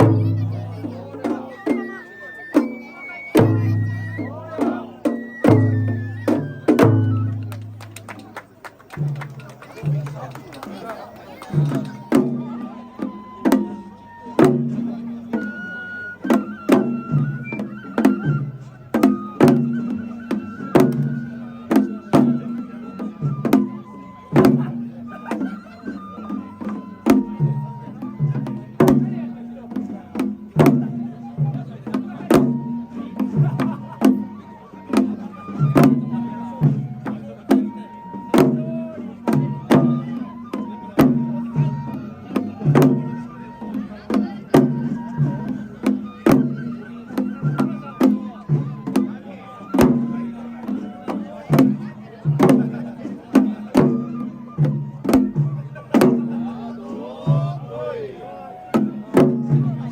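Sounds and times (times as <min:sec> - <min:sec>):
high flute melody: 0:00.0 - 0:08.3, 0:09.8 - 0:52.2, 0:53.8 - 0:59.9
drums struck in steady rhythm: 0:00.0 - 0:59.9.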